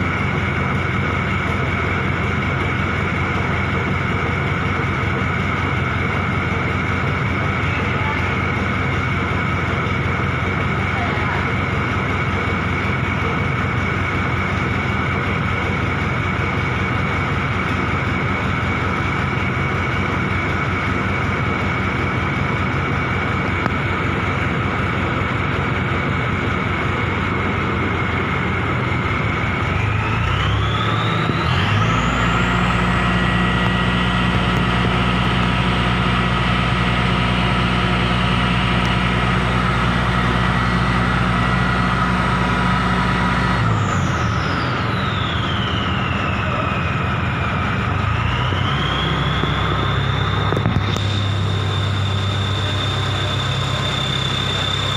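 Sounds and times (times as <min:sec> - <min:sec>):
crane engine running and revving: 0:00.0 - 0:54.9.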